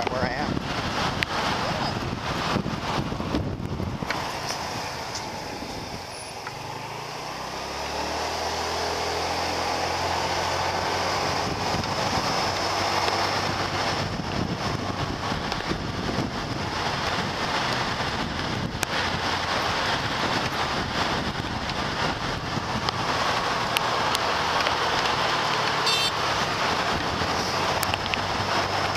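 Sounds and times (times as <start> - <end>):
wind and road noise: 0.0 - 28.9.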